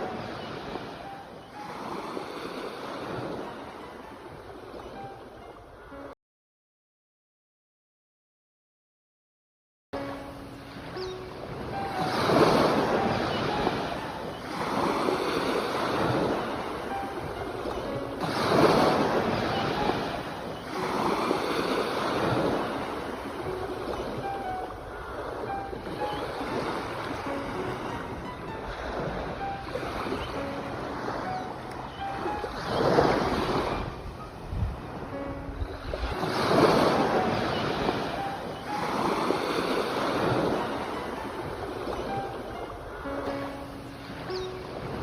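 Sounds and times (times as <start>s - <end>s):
ocean surf breaking: 0.0s - 5.2s, 10.0s - 45.0s
sea waves washing in: 0.0s - 6.1s, 10.0s - 45.0s.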